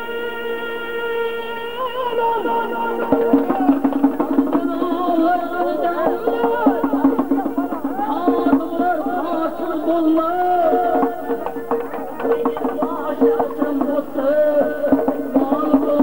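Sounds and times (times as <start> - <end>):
accordion chords: 0.0 - 16.0
steady drum beat: 2.4 - 16.0.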